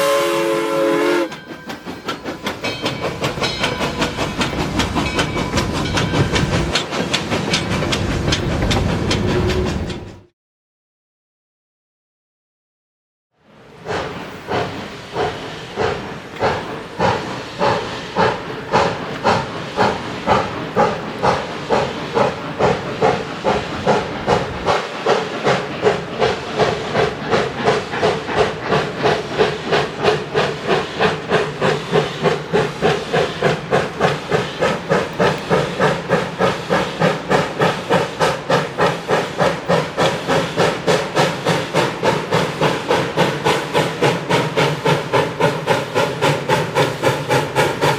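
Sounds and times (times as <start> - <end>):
steam locomotive exhaust chuffing: 0.0 - 10.2, 13.6 - 47.9.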